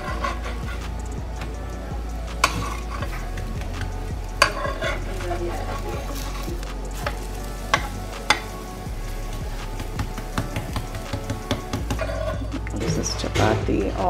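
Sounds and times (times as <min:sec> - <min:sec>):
spatula scraping on griddle: 0:00.0 - 0:01.5, 0:02.3 - 0:12.9
flatbreads sizzling: 0:00.0 - 0:14.0.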